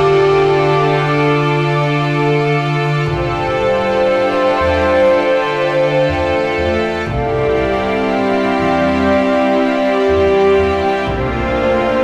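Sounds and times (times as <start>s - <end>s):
slow sustained chords: 0.0s - 12.0s.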